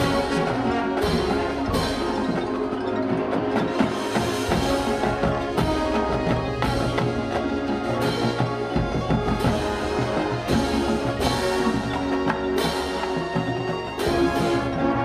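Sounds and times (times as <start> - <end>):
marching band playing chords: 0.0 - 15.0.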